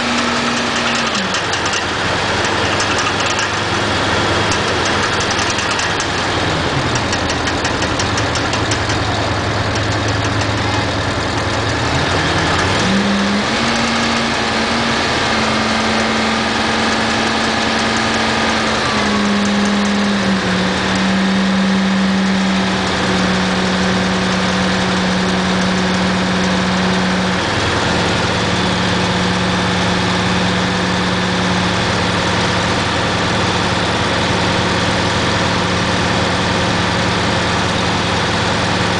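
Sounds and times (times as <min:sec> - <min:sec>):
truck engine idling and revving: 0:00.0 - 0:38.9.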